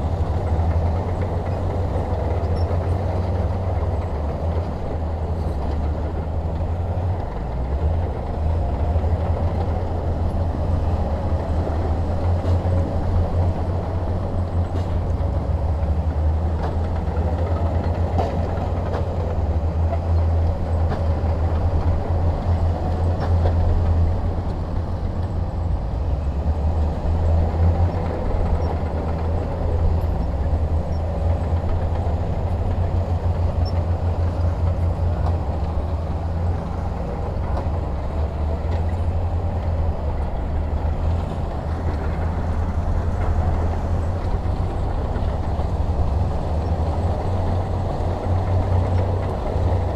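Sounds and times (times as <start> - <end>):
diesel engine rumbling: 0.0 - 49.9.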